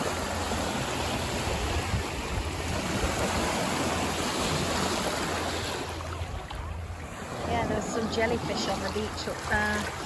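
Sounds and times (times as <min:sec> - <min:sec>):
sea waves washing on shore: 0:00.0 - 0:10.0
wind rumbling on microphone: 0:00.0 - 0:10.0.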